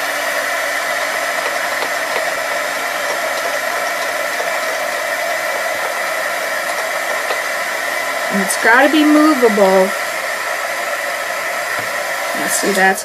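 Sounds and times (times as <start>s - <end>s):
heat gun blowing air: 0.0s - 13.0s.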